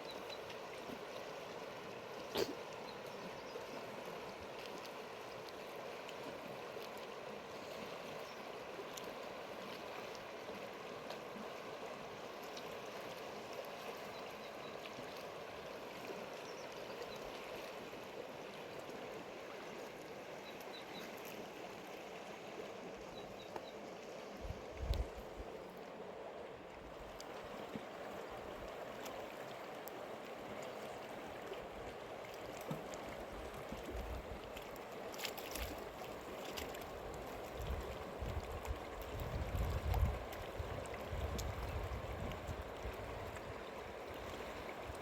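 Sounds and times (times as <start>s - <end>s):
river running over stones: 0.0s - 45.0s.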